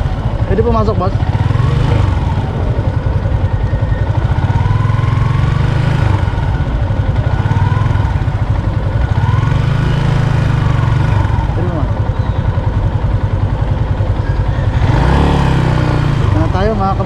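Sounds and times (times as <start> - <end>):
scooter engine idling: 0.0 - 17.0.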